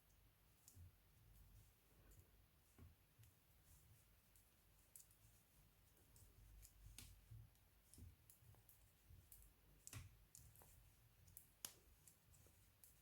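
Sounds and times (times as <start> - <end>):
knitting needles clicking: 0.0 - 13.0.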